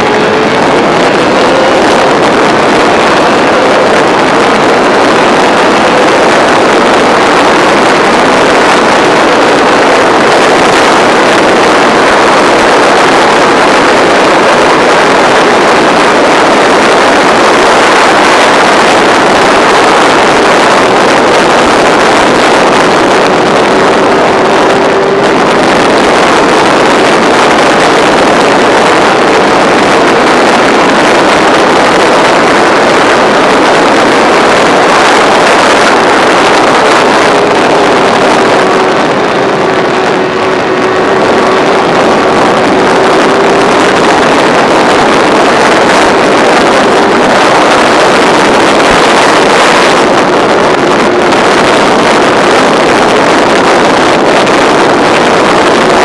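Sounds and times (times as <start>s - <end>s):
motorcycle engine at high revs: 0.0s - 56.0s
wind rush on microphone: 0.0s - 56.0s.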